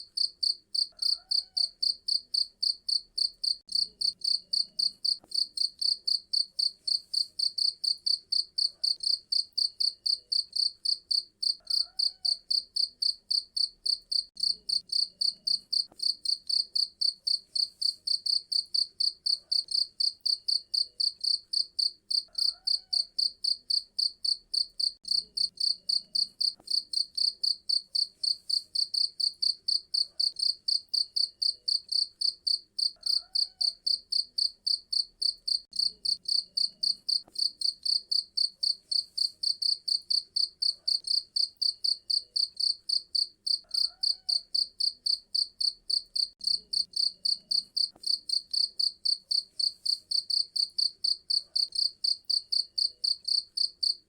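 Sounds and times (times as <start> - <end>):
cricket chirping: 0.1 - 54.0.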